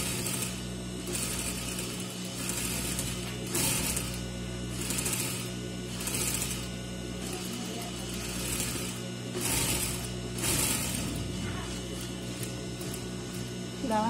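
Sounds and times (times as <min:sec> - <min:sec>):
sewing machine motor hum: 0:00.0 - 0:14.0
sewing machine stitching fabric: 0:00.0 - 0:14.0.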